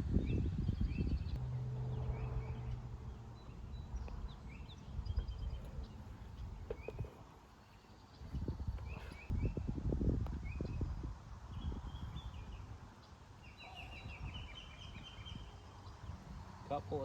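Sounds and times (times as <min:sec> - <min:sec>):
small birds chirping and trilling: 0:00.1 - 0:09.7, 0:10.4 - 0:17.0.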